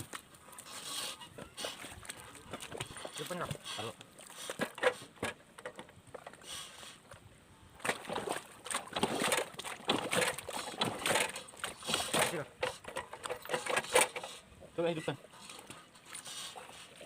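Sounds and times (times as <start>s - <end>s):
mud and water splashing: 0.0s - 17.0s.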